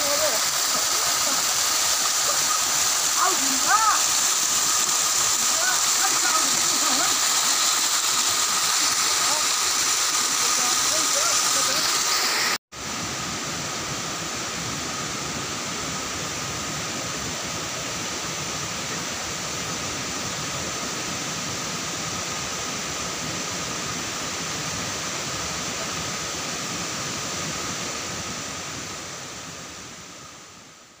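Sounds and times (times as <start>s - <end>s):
stream cascading into a pool: 0.0s - 31.0s.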